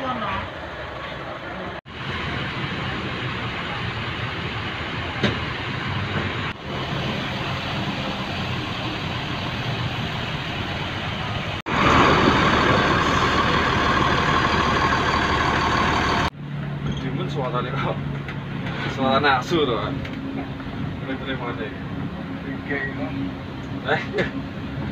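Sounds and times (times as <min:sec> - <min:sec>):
bus engine and road noise: 0:00.0 - 0:24.9.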